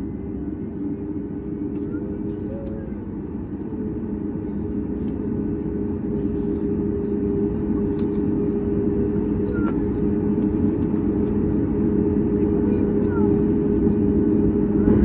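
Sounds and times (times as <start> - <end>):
jet engines idling inside cabin: 0.0 - 15.0.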